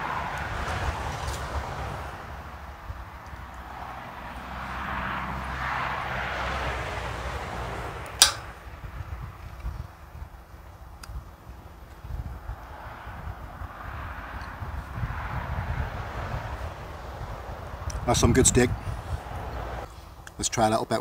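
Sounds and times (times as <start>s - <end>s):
wind rumbling on microphone: 0.0s - 19.9s.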